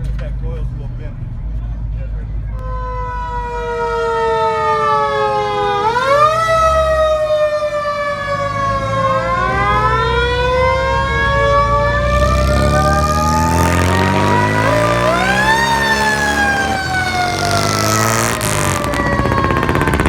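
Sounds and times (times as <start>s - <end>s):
low vehicle rumble: 0.0s - 20.0s
sirens wailing: 2.6s - 20.0s.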